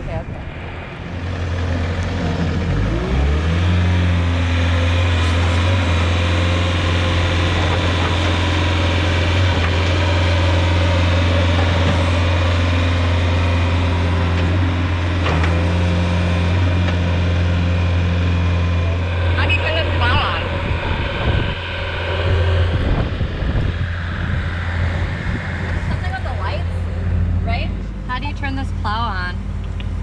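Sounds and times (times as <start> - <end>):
truck engine idling: 0.6 - 30.0.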